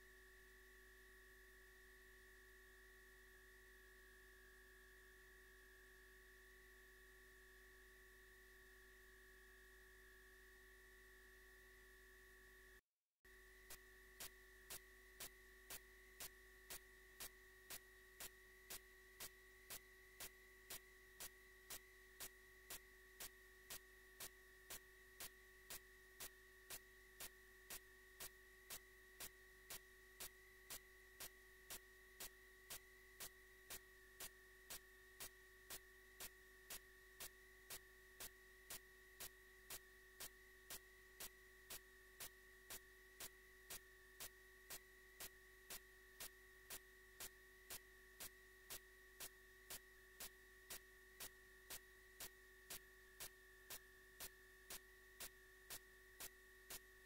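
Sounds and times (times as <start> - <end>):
faint electrical hum and hiss: 0.0 - 57.0.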